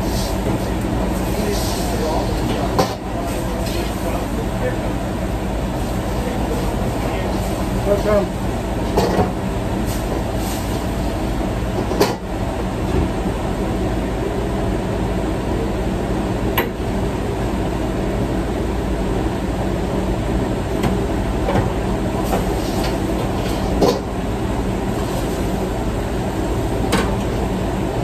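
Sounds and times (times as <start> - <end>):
gas burner and exhaust hood roar: 0.0 - 28.0.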